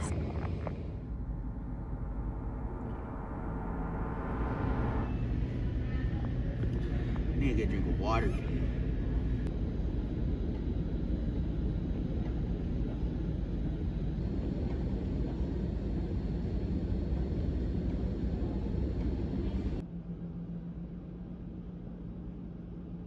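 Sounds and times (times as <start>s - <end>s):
faint hum: 0.0s - 23.0s
steady low rumble: 0.0s - 23.0s.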